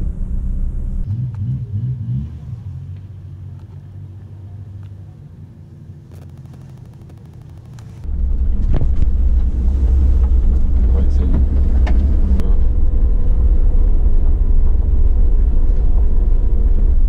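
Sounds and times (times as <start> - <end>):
car rumbling on dirt track: 0.0 - 17.0
engines idling low hum: 0.0 - 17.0.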